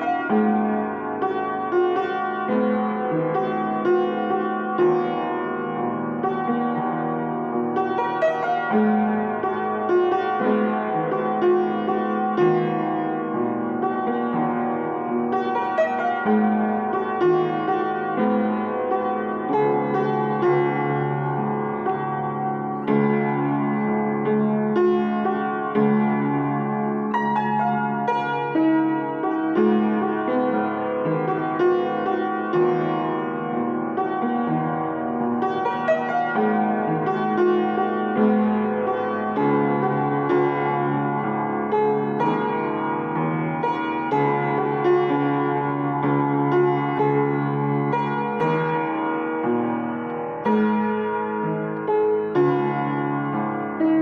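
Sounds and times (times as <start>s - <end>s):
slow piano melody: 0.0s - 54.0s.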